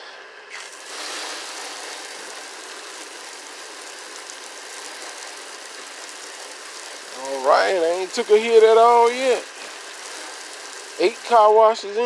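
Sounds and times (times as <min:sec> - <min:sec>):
pressure washer spraying: 0:00.5 - 0:11.6.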